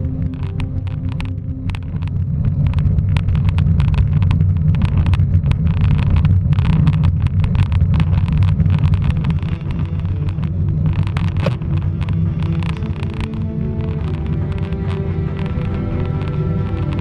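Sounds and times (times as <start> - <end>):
bicycle rolling over asphalt: 0.0 - 17.0
bike rattling over bumps: 0.0 - 17.0
wind buffeting microphone: 0.0 - 17.0.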